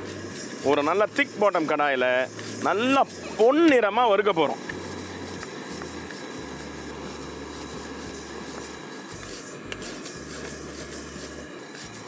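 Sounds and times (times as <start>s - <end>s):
dry grains scraping in a pan: 0.0s - 12.0s.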